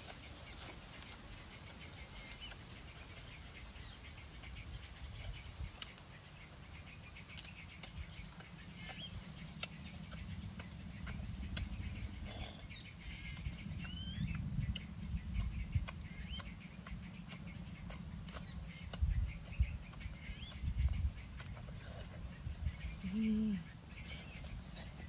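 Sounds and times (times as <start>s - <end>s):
birds chirping: 0.0s - 25.0s
low rumble: 0.0s - 25.0s.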